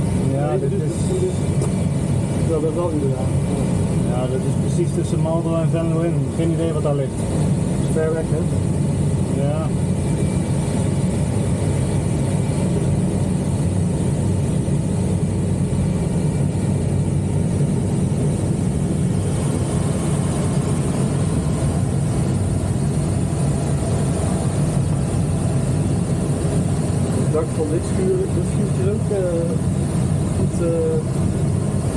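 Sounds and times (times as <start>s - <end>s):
glider cockpit airflow noise: 0.0s - 31.9s.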